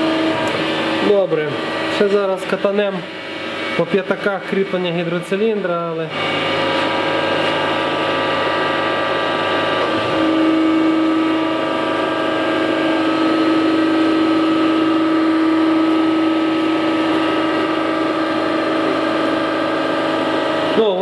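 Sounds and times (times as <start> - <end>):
grinder machine hum: 0.0 - 21.0
low machine tone: 0.0 - 21.0.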